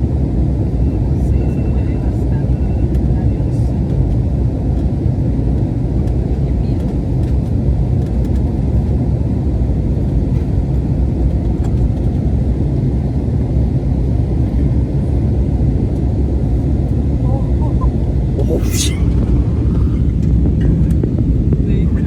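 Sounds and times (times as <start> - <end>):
jet engine rumble in cabin: 0.0 - 22.0.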